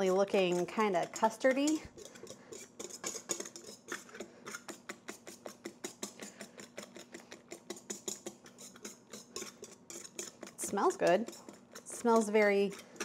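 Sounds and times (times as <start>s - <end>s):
whisk clicking against metal bowl: 0.0s - 13.0s.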